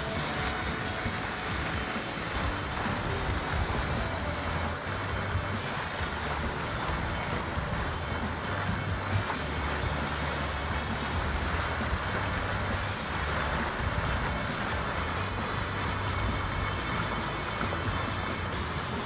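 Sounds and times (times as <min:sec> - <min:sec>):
mud spring churning and sloshing: 0:00.0 - 0:19.0.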